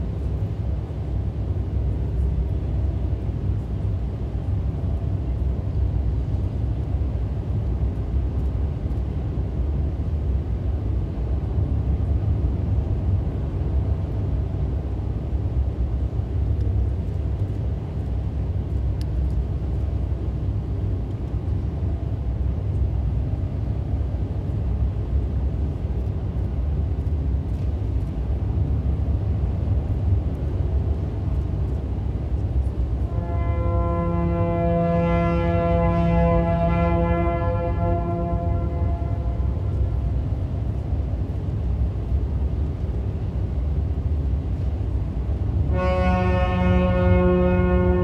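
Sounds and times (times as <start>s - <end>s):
deep rumbling drone: 0.0s - 48.0s.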